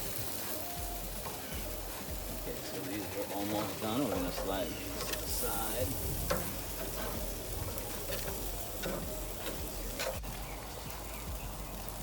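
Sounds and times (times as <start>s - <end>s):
chicken sizzling on a grill: 0.0s - 12.0s
sharp clicks on grill grate: 0.0s - 12.0s.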